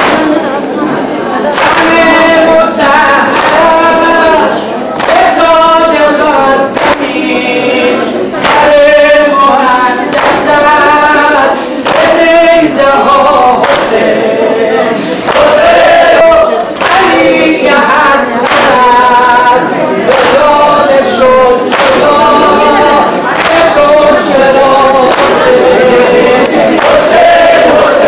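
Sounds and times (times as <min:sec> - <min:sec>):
unaccompanied chanted singing: 0:00.0 - 0:28.0.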